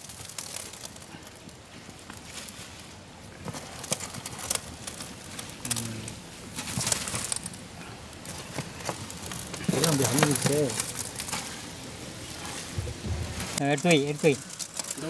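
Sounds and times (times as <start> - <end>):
boiling water: 0.0 - 15.0.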